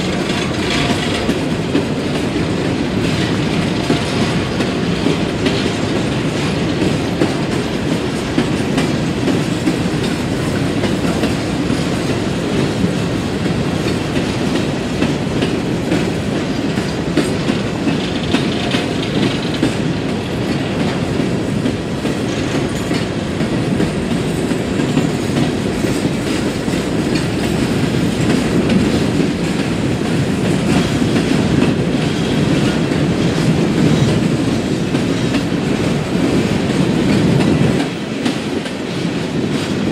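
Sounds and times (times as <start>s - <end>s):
freight cars rolling on rails: 0.0s - 39.9s.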